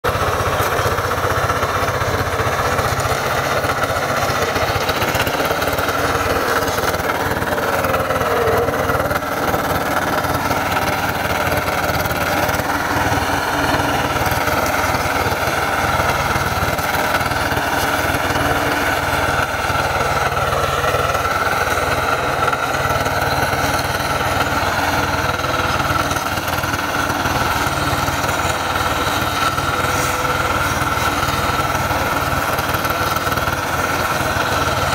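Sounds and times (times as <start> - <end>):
diesel engine running: 0.0 - 34.9
rotary tiller through soil: 0.0 - 34.9.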